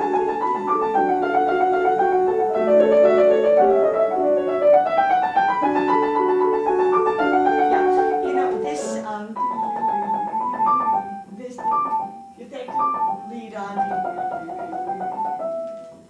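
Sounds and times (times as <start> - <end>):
solo classical piano: 0.0 - 16.0.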